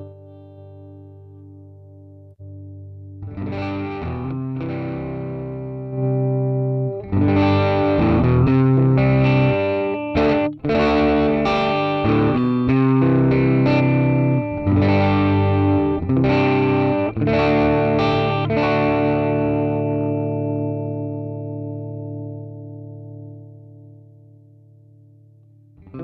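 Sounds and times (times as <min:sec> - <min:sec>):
electric guitar chords ringing: 0:00.0 - 0:26.0.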